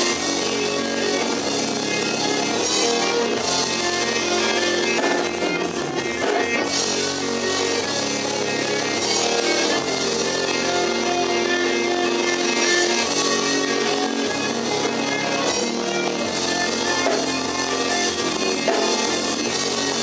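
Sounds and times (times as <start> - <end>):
drum kit: 0.0 - 20.0
electric guitars: 0.0 - 20.0.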